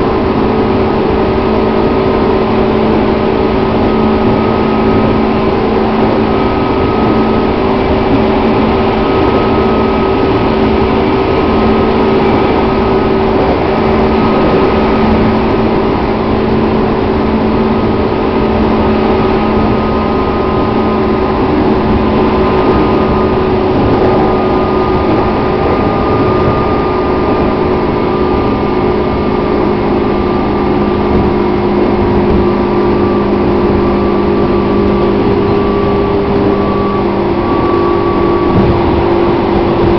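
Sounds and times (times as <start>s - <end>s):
electric train humming: 0.0s - 39.9s
wheels rumbling on rails: 0.0s - 39.9s.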